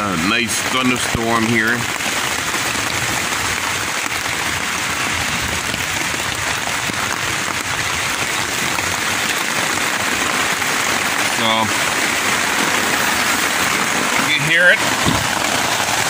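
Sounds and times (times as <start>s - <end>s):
rain pattering on tent: 0.0s - 16.0s.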